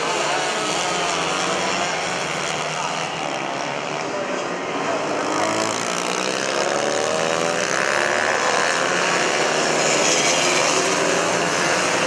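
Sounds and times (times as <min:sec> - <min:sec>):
mini bike engines racing: 0:00.0 - 0:12.0.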